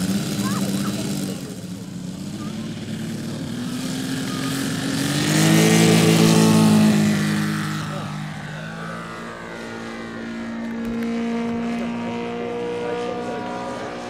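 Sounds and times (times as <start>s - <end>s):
model plane radial engine: 0.0s - 14.0s.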